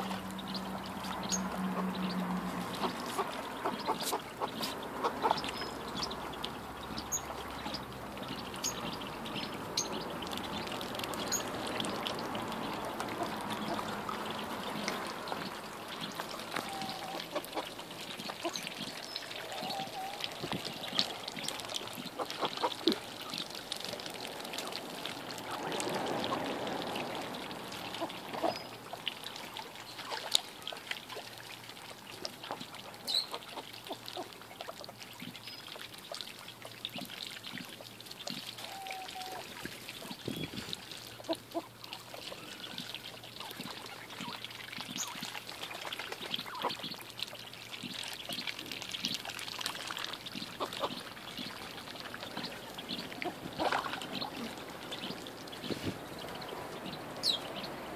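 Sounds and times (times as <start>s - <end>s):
ducks dabbling and slurping: 0.0s - 57.9s
small water splashes: 0.0s - 57.9s.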